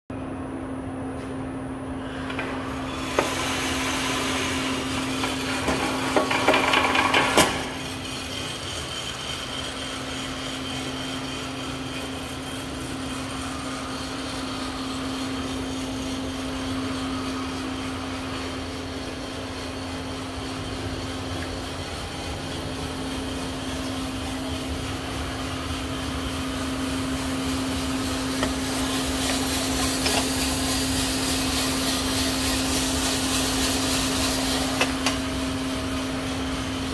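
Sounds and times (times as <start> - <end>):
coffee roaster motor hum: 0.1 - 36.9.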